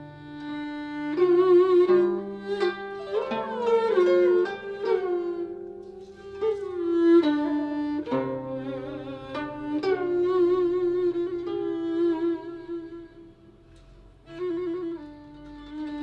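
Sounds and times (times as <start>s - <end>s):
bowed fiddle melody: 0.0s - 16.0s
plucked zither notes: 0.0s - 16.0s.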